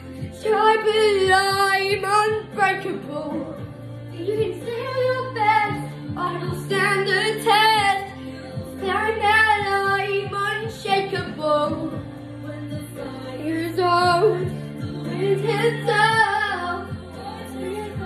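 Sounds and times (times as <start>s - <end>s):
backing music low notes: 0.0s - 18.0s
girl singing: 0.0s - 18.0s.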